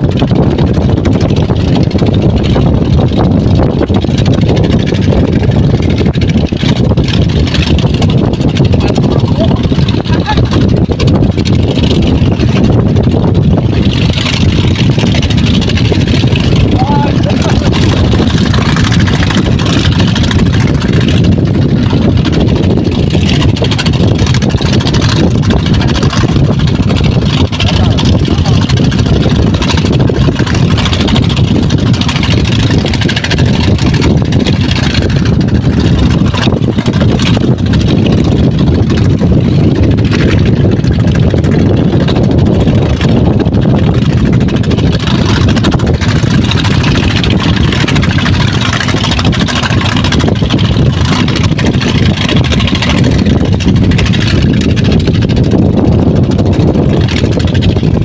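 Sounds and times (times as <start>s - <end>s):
pump engine low rumble: 0.0s - 58.0s.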